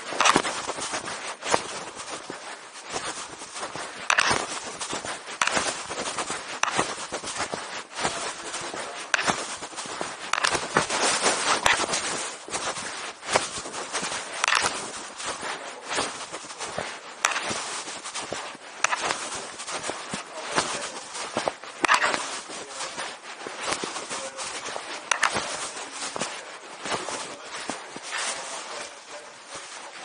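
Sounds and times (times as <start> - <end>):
rustling and scraping handling noise: 0.0 - 30.0.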